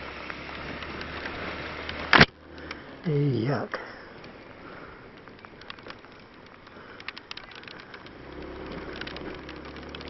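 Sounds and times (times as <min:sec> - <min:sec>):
low engine hum: 0:00.0 - 0:10.0
raindrops pattering on microphone: 0:00.0 - 0:10.0.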